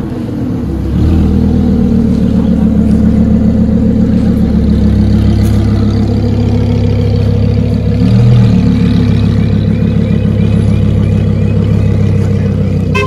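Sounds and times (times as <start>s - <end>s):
car engines running at low revs: 0.0s - 13.0s.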